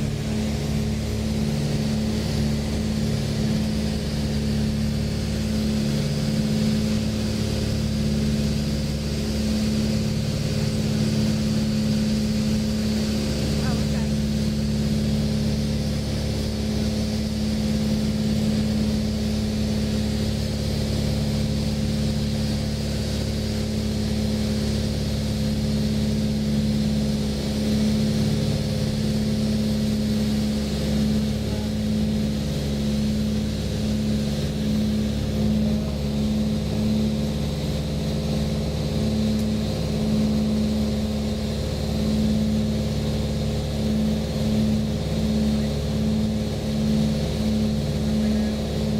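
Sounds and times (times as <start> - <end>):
propeller plane engines droning: 0.0 - 48.9.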